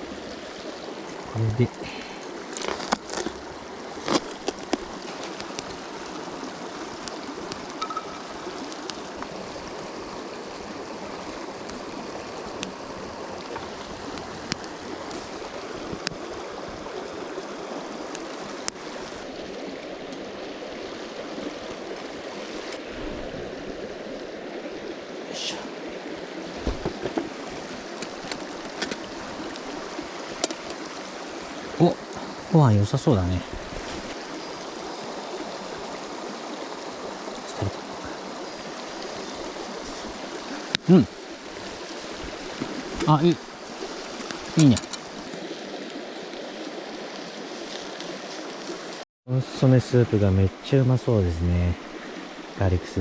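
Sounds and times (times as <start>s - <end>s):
river flowing over stones: 0.0s - 53.0s.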